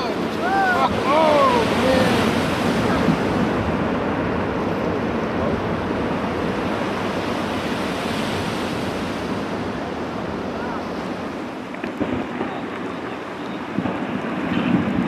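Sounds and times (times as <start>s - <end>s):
churning sea water: 0.0s - 15.0s.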